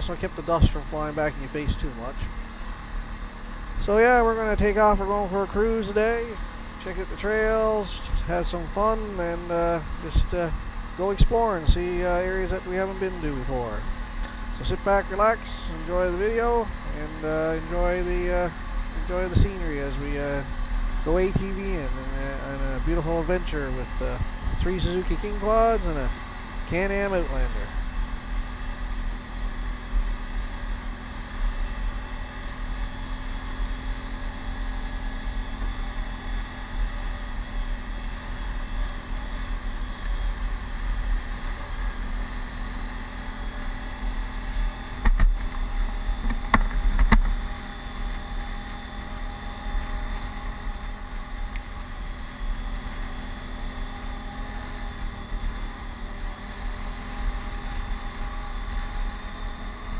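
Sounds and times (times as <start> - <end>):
atv engine running on gravel: 0.0 - 59.9.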